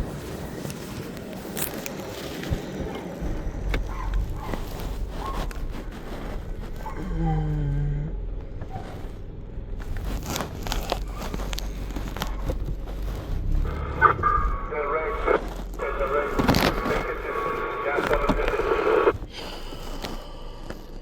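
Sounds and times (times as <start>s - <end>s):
low vehicle rumble: 0.0s - 21.0s
clicks and rustling handling noise: 0.1s - 7.2s, 8.3s - 21.0s.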